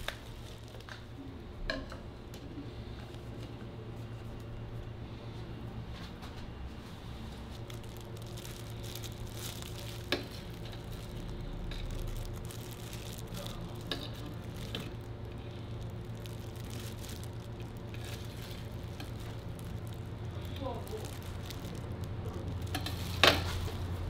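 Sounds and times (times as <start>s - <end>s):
low hum with light hiss: 0.0s - 24.0s.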